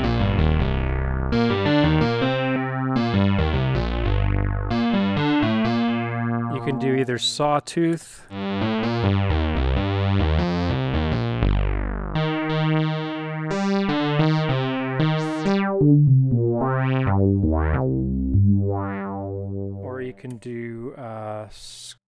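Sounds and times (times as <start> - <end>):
buzzy analog synthesizer: 0.0 - 7.6, 8.3 - 20.2.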